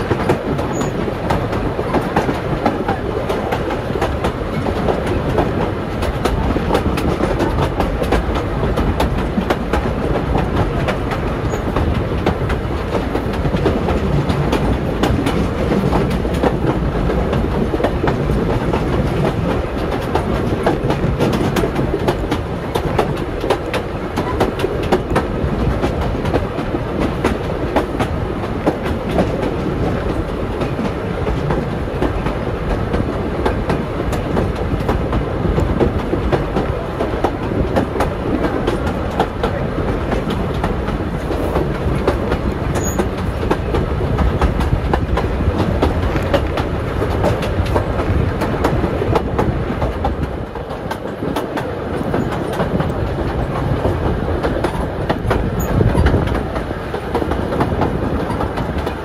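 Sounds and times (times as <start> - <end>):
clicks over rail joints: 0.0 - 59.0
train wheels rumbling on track: 0.0 - 59.0.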